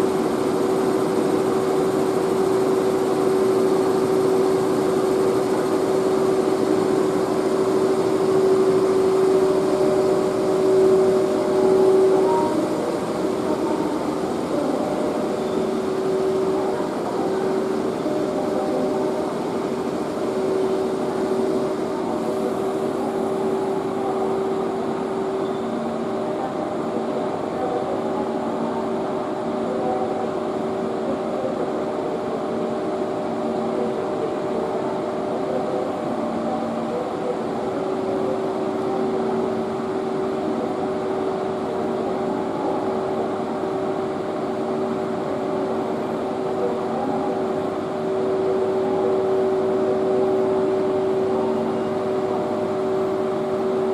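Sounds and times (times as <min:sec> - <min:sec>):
electric locomotive machinery humming: 0:00.0 - 0:53.9.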